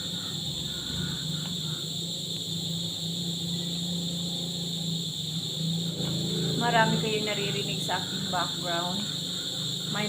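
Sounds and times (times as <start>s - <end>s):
high-pitched insect chorus: 0.0s - 10.0s
low steady hum: 0.0s - 10.0s.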